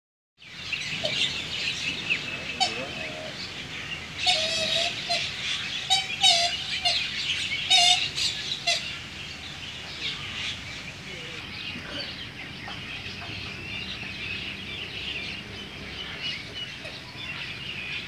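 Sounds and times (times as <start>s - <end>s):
small birds chirping and trilling: 0.4s - 18.0s.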